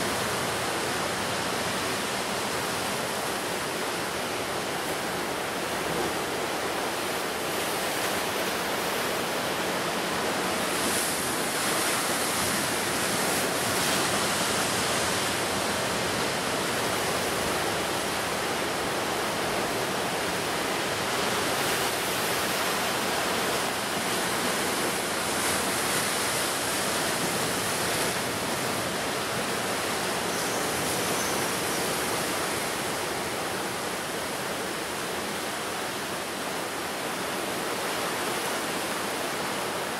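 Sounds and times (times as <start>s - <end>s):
sea surf waves rushing: 0.0s - 39.9s.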